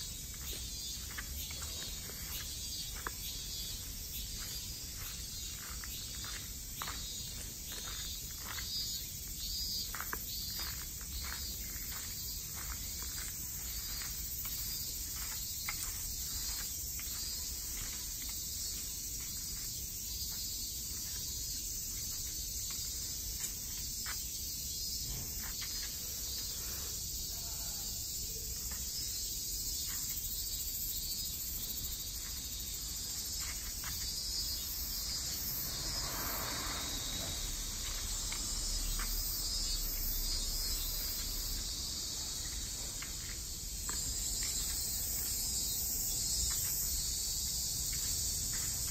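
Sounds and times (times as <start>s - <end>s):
faint footsteps: 0.0s - 48.9s
high-pitched insect chorus: 0.0s - 48.9s.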